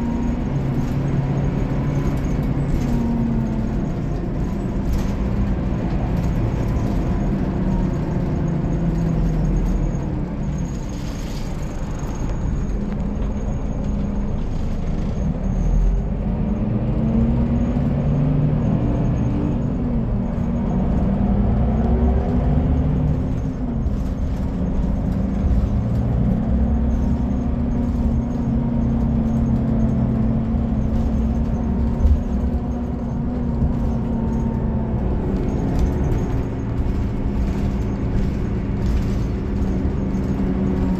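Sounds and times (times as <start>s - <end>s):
bus diesel engine revving: 0.0s - 40.9s.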